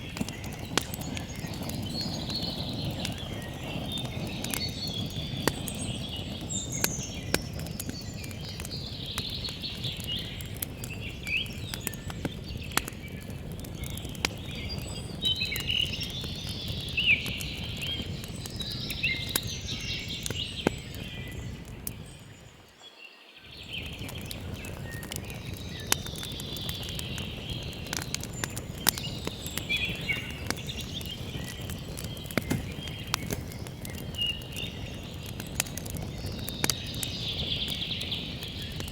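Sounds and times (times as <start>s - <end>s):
campfire crackling and popping: 0.0s - 22.8s, 23.5s - 38.9s
songbirds chirping: 0.0s - 38.9s.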